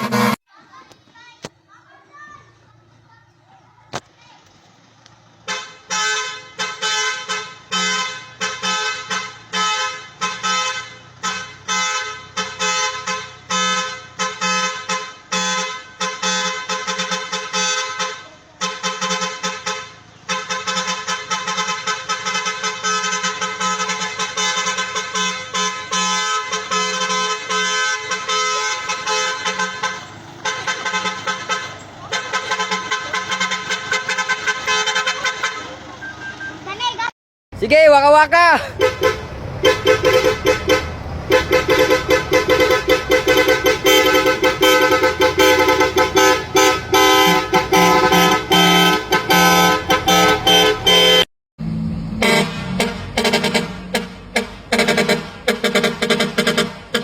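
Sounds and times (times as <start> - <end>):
vehicle air horn blasts: 0.0 - 0.4, 5.4 - 35.8, 38.6 - 51.3, 52.1 - 57.0.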